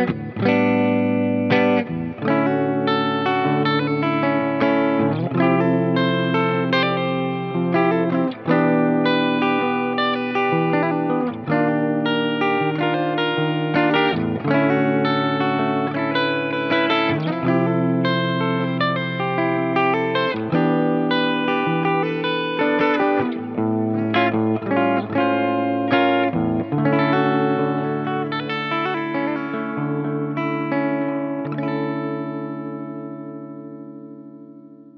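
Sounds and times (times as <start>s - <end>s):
electric guitar chords with reverb: 0.0s - 34.9s.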